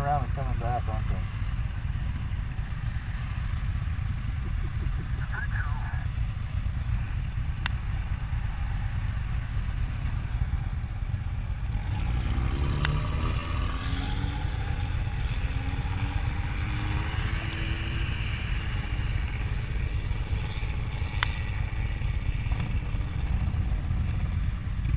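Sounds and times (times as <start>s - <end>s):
motorcycle engine idling: 0.0s - 12.1s, 14.2s - 24.9s
vehicle passing and accelerating: 0.0s - 24.9s.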